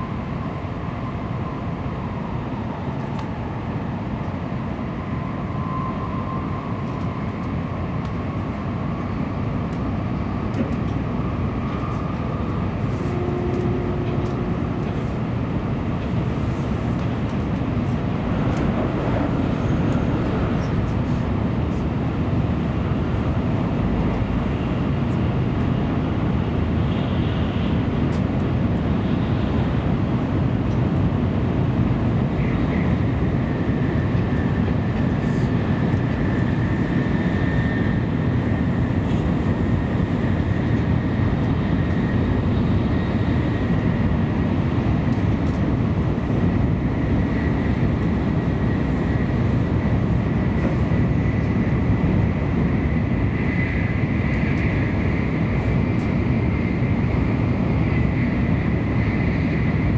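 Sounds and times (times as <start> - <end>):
train cabin rumble: 9.3 - 59.9.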